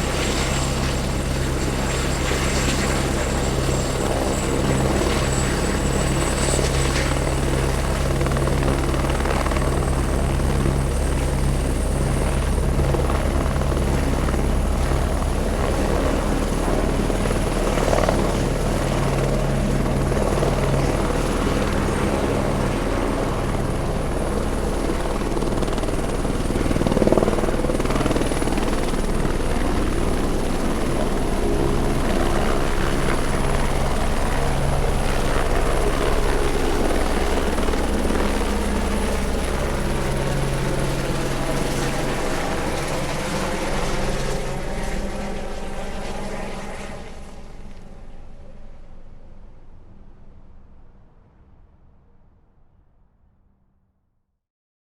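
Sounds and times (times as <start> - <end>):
helicopter rotor beating: 0.0 - 48.3.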